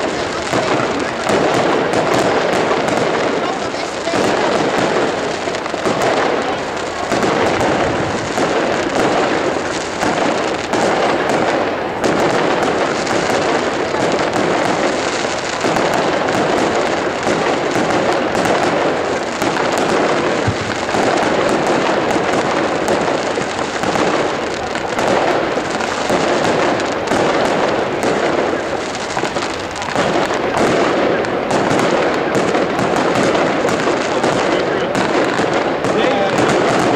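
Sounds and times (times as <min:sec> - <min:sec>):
fireworks bursts and crackling: 0:00.0 - 0:36.9.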